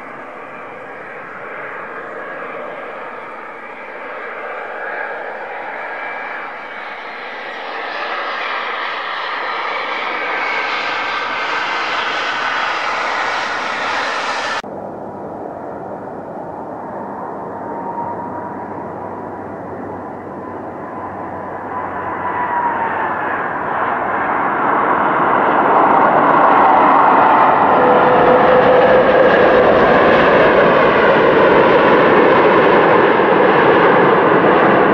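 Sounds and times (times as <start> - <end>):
jet engine whine passing: 0.0 - 34.9
jet engines on runway: 0.0 - 34.9.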